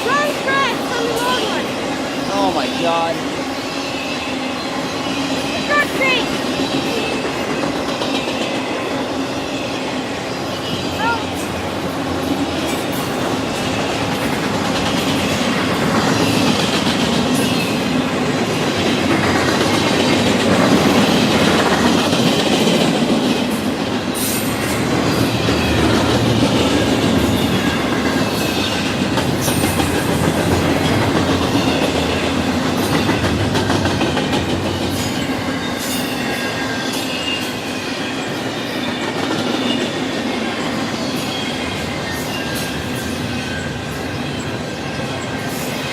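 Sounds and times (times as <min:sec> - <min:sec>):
steel wheels rumbling on rail: 0:00.0 - 0:45.9.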